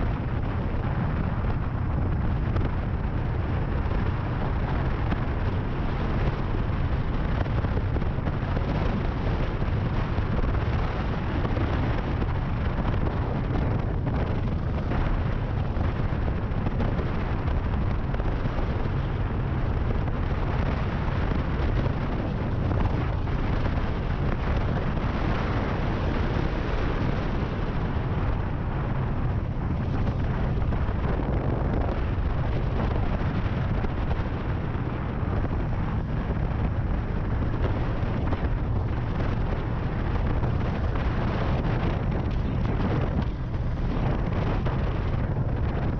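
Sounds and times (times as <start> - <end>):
motorcycle cruising: 0.0 - 45.9
wind rush on microphone: 0.0 - 45.9.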